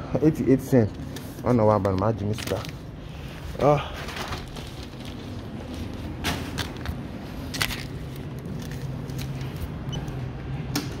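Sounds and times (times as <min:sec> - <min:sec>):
supermarket background hum: 0:00.0 - 0:11.0.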